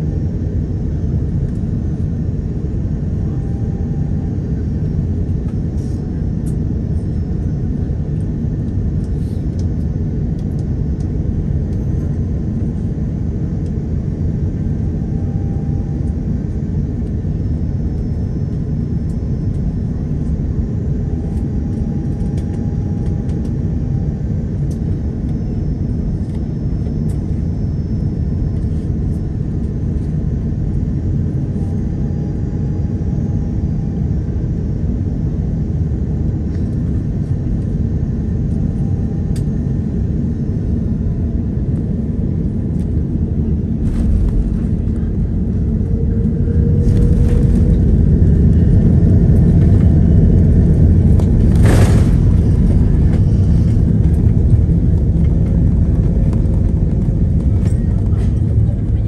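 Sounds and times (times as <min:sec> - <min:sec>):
aircraft cabin engine rumble: 0:00.0 - 0:59.0.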